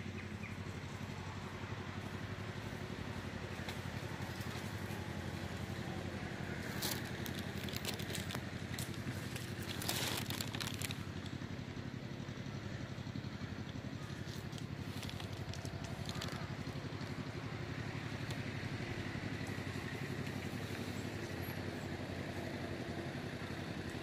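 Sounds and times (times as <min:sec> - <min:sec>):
distant city traffic hum: 0:00.0 - 0:24.0.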